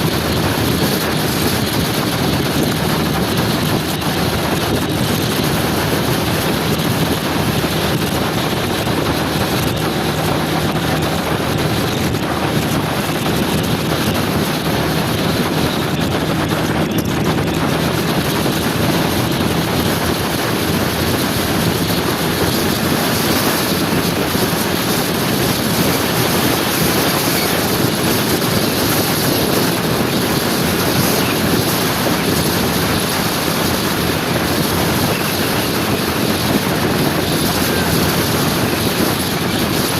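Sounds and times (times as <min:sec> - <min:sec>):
scooter engine running: 0:00.0 - 0:39.9
wind rushing on microphone: 0:00.0 - 0:39.9.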